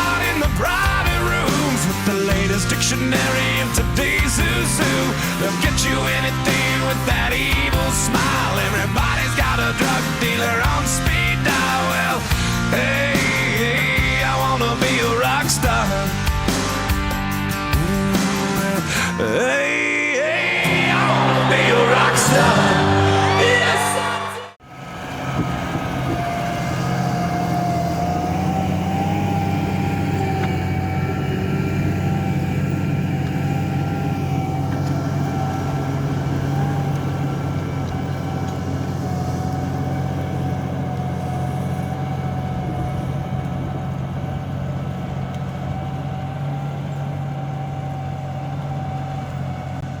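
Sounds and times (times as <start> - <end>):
engine whine: 0.0 - 50.0
tractor diesel engine running: 0.0 - 50.0.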